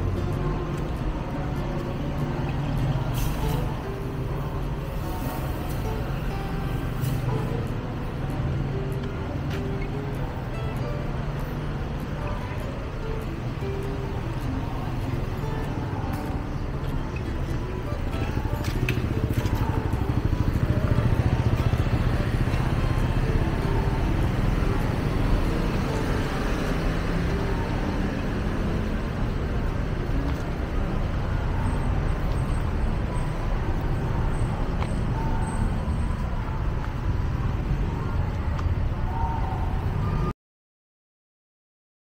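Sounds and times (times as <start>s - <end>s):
faint voices: 0.0s - 40.3s
traffic: 0.0s - 40.4s.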